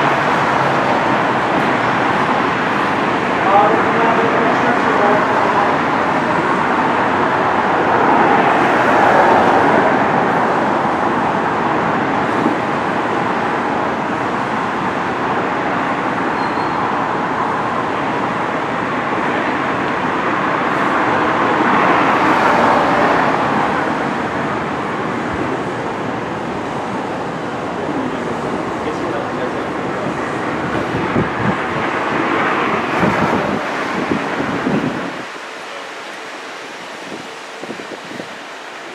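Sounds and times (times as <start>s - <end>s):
road traffic passing: 0.0s - 38.9s.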